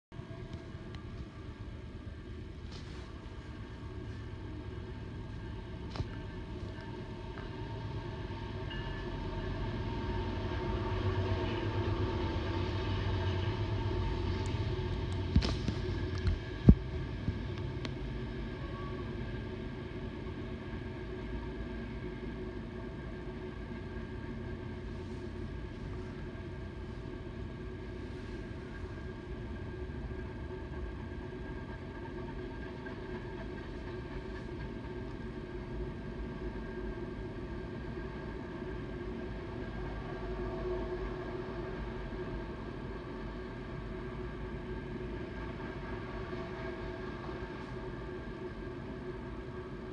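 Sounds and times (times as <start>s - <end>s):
freight train rumbling: 0.1s - 49.9s
diesel locomotive engine throb: 0.2s - 49.9s.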